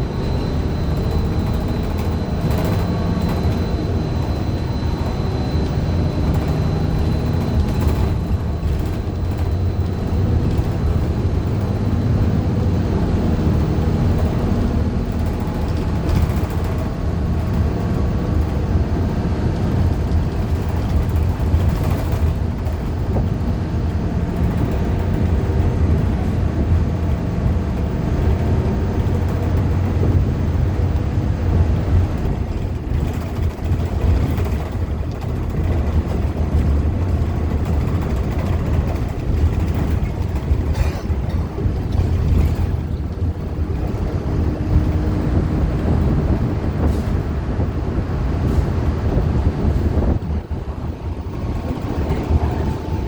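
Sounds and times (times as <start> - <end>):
bus engine rumble: 0.0 - 53.0
road noise: 0.0 - 53.0.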